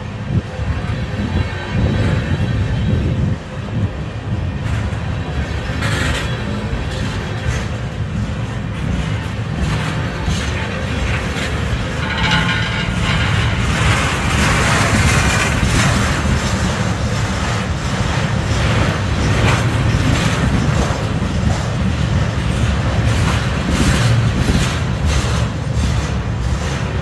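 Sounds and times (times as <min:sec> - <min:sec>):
train wheels rumbling on rails: 0:00.0 - 0:27.0
wheels and cars clanking: 0:00.0 - 0:27.0.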